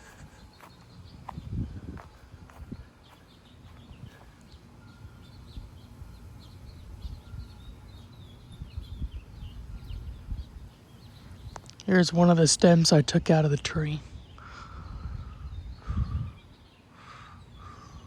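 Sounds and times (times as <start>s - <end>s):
wind buffeting microphone: 0.0s - 11.7s, 13.7s - 16.8s
small birds chirping: 0.0s - 18.0s.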